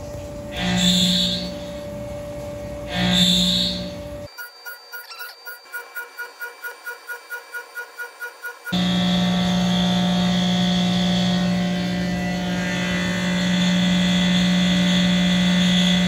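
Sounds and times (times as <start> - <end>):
milling machine cutting metal: 0.0 - 2.1, 2.7 - 16.0.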